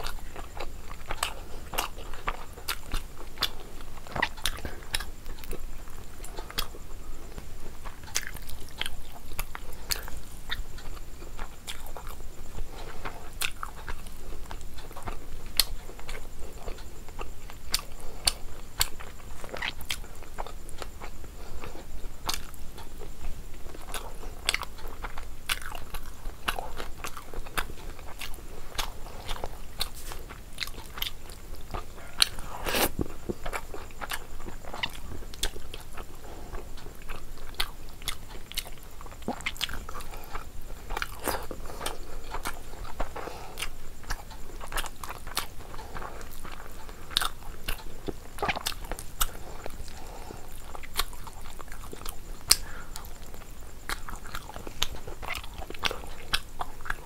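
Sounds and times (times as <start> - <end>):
chewing and biting food: 0.0 - 57.0.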